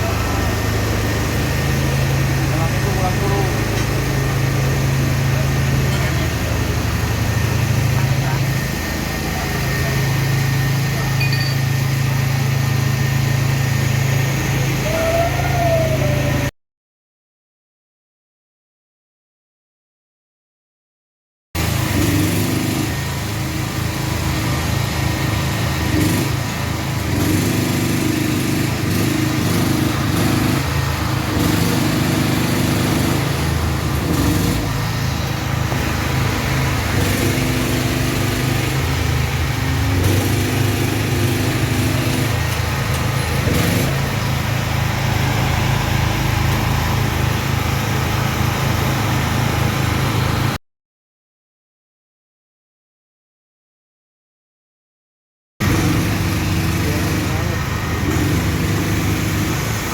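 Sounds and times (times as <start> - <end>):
small engine running: 0.0 - 16.5, 21.6 - 50.6, 55.6 - 59.9.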